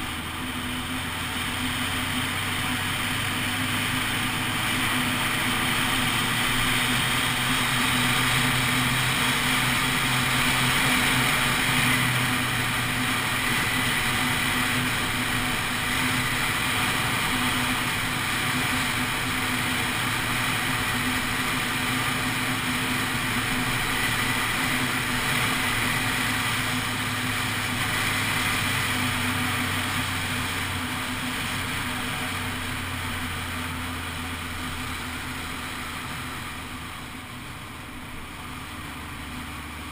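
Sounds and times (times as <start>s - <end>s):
motorcycle engine cruising: 0.0s - 39.9s
road noise: 0.0s - 39.9s.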